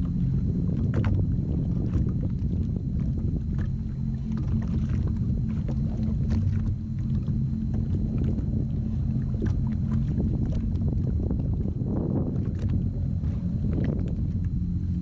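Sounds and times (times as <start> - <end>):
jet ski engine idling: 0.0 - 15.0.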